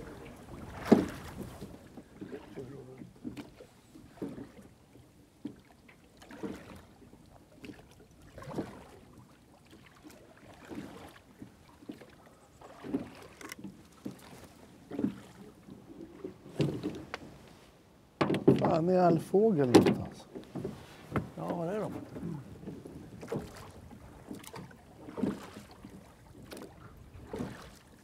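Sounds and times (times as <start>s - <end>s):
water splashing against boat hull: 0.0s - 28.0s.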